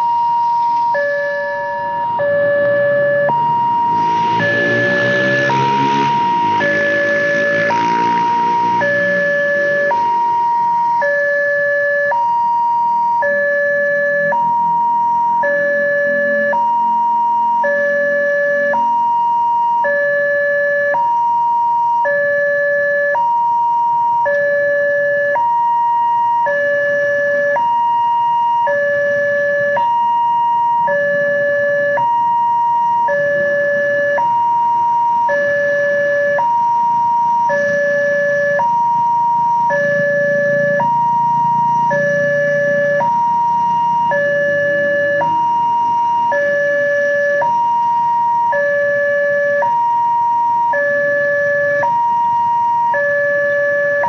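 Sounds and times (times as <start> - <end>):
level crossing two-tone alarm: 0.0 - 54.0.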